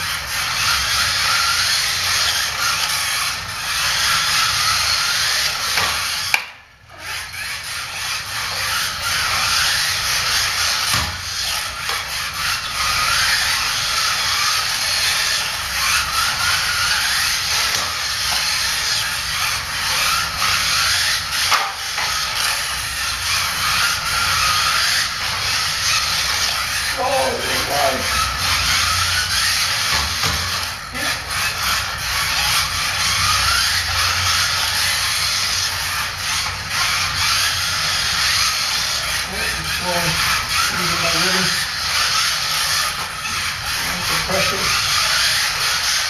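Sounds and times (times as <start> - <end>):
small electric motors whining: 0.0 - 46.0.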